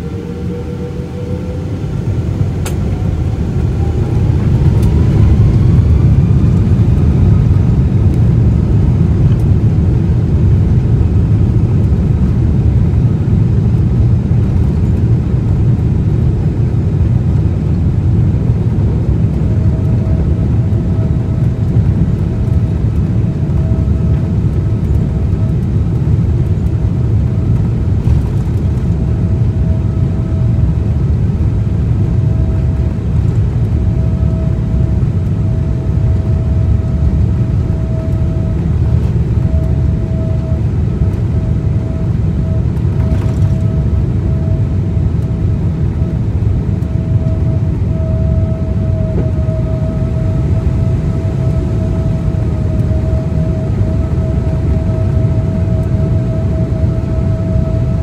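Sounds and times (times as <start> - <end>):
engine whine rising: 0.0 - 9.6, 17.3 - 58.0
jet engines roaring: 0.0 - 58.0.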